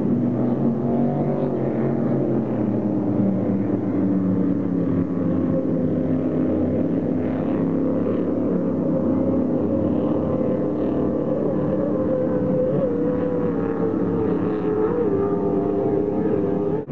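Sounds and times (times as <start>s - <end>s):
racing powerboats passing: 0.0s - 16.9s.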